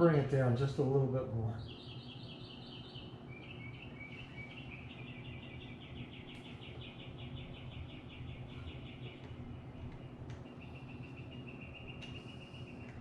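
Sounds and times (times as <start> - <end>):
low steady hum: 0.0 - 13.0
bird trilling: 1.5 - 13.0.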